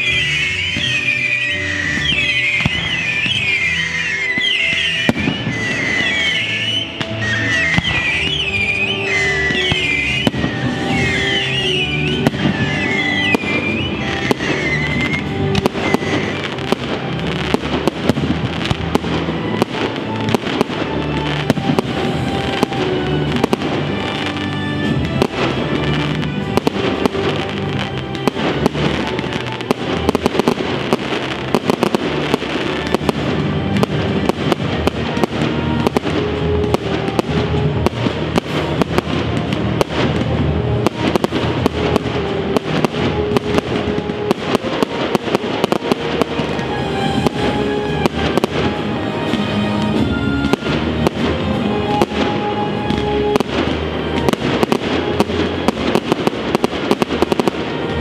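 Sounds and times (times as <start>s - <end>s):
fireworks bangs and crackling: 0.0s - 58.0s
music playing: 0.0s - 58.0s.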